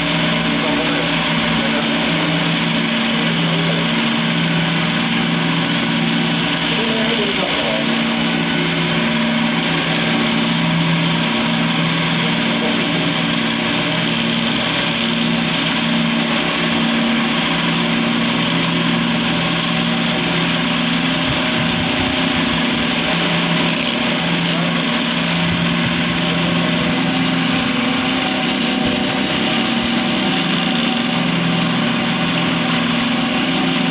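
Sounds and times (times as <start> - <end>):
spinning head motor hum: 0.0 - 33.9.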